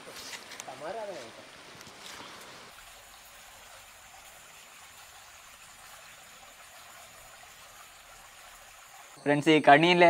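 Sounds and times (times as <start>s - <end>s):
stream flowing over stones: 0.0s - 10.0s.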